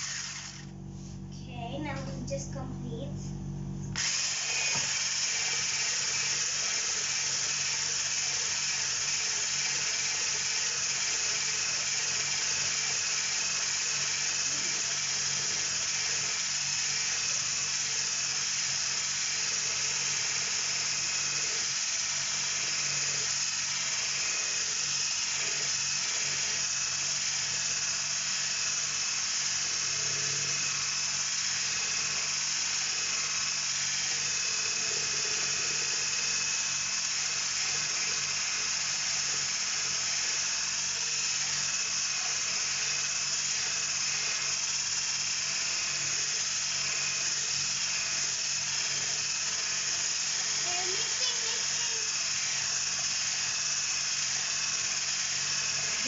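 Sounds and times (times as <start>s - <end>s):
electric whisk motor whine: 0.0s - 2.7s, 3.4s - 56.0s.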